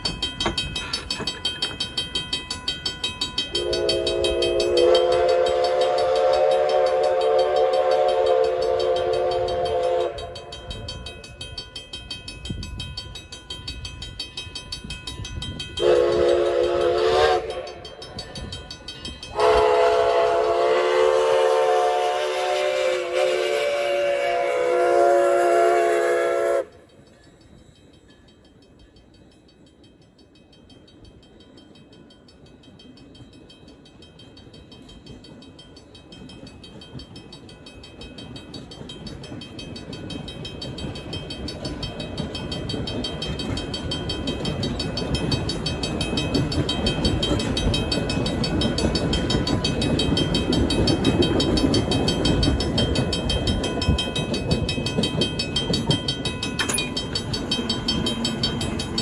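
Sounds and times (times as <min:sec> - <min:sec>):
steam train rumble: 0:00.0 - 0:59.0
train cars clattering on rails: 0:00.0 - 0:59.0.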